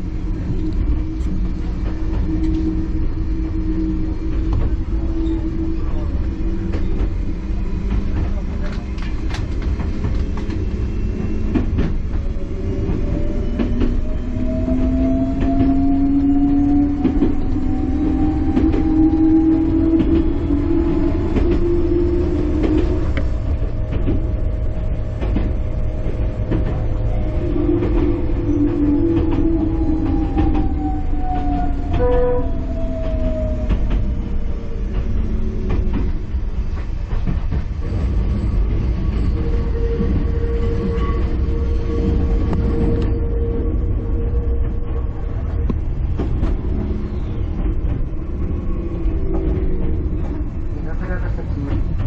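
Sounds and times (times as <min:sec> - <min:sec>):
train rumble inside car: 0:00.0 - 0:52.0.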